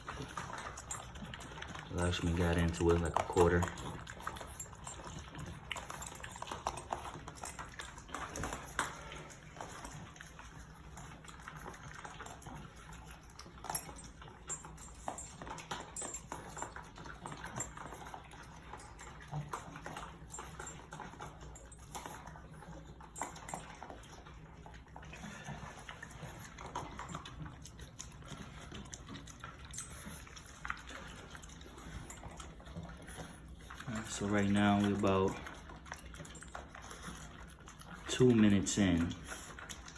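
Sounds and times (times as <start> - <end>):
dogs chewing and licking: 0.0 - 39.9.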